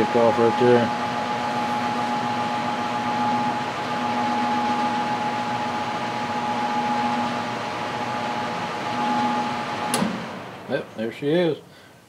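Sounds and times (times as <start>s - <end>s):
electric furnace whirring: 0.0s - 12.0s.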